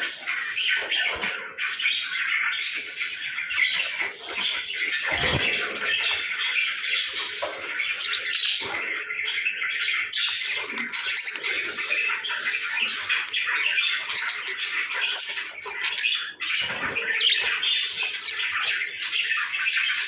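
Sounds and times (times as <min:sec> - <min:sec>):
lovebirds calling: 0:00.0 - 0:20.0.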